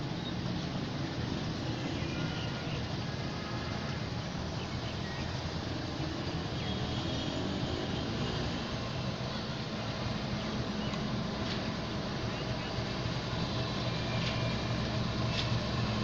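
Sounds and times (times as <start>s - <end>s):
goods train rumbling on track: 0.0s - 16.0s.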